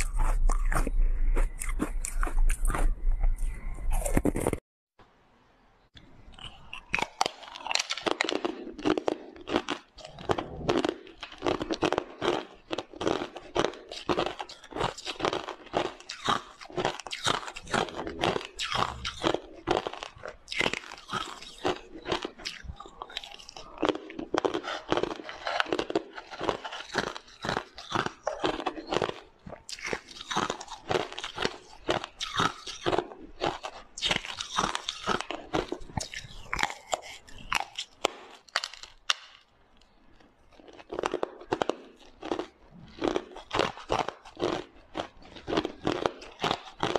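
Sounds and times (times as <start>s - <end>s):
crunching ice while chewing: 0.0s - 4.6s, 6.3s - 46.9s.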